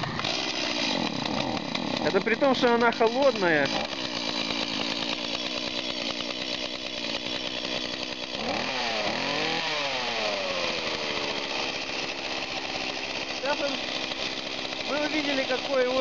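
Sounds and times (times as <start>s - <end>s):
chainsaw engine revving and idling: 0.0s - 16.0s.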